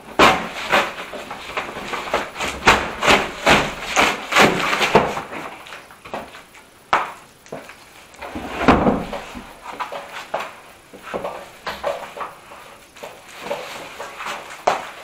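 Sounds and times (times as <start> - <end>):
plastic and cardboard rustling: 0.0 - 6.5, 7.5 - 15.0.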